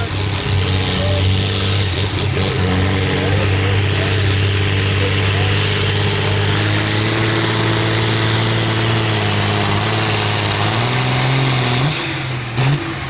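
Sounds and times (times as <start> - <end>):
tractor diesel engine at full throttle: 0.0 - 13.0.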